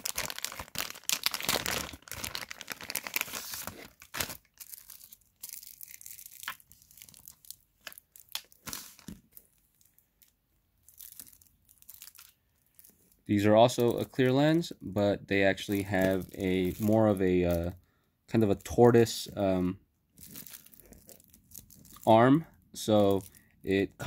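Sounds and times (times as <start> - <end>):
plastic packaging crinkling: 0.0 - 14.7, 15.5 - 17.7, 20.1 - 22.2, 23.0 - 23.5.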